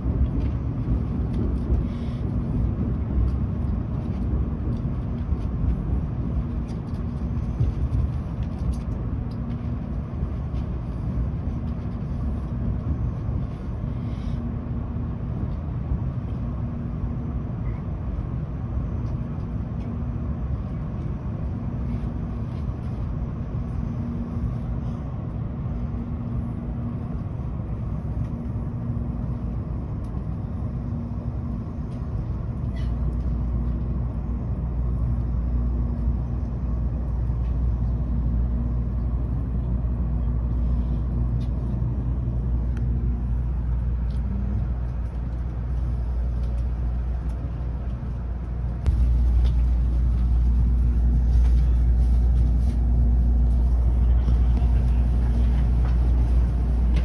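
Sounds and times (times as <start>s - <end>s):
faint hum: 0.0s - 57.0s
train rumble inside cabin: 0.0s - 57.0s.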